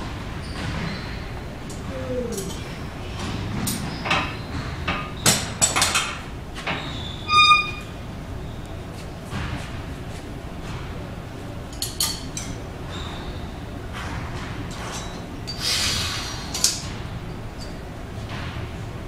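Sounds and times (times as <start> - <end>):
gym room noise: 0.0 - 19.0.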